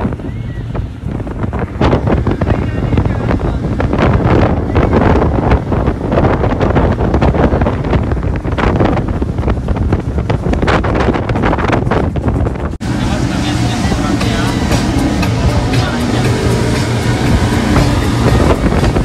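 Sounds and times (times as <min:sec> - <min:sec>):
boat engine drone: 0:00.0 - 0:19.0
churning wake rushing: 0:00.0 - 0:19.0
wind buffeting microphone: 0:00.0 - 0:19.0.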